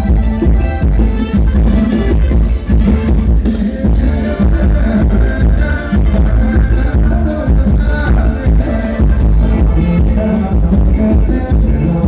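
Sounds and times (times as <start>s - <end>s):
heavy drum beat: 0.0s - 12.0s.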